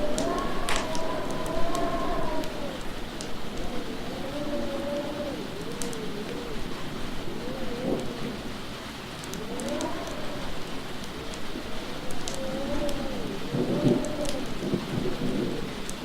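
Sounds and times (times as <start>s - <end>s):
howling wind: 0.0s - 16.0s
log fire crackling: 0.0s - 16.0s
steady rain: 0.0s - 16.0s.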